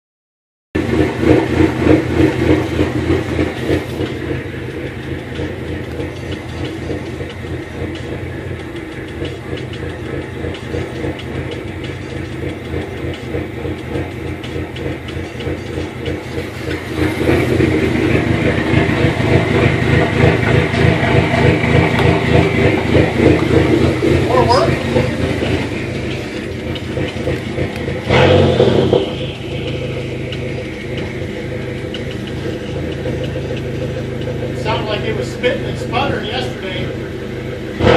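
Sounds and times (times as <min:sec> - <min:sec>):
car engine idling roughly: 0:00.8 - 0:37.9.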